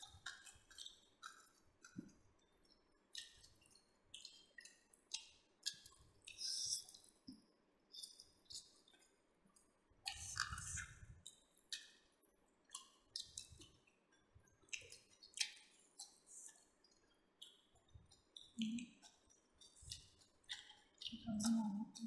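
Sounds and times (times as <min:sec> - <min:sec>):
people chewing with wet mouth sounds: 0:00.0 - 0:22.0.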